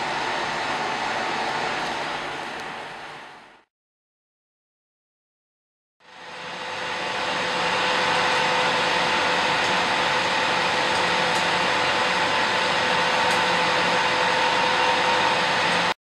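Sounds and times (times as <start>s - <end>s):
whirring machine hum with whine: 0.0s - 3.7s, 6.0s - 16.0s.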